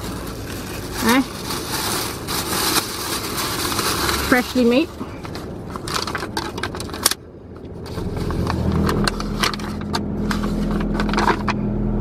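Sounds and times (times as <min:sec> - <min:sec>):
paper rustling and crinkling: 0:00.0 - 0:07.0, 0:07.8 - 0:11.6
low engine hum: 0:00.0 - 0:12.0.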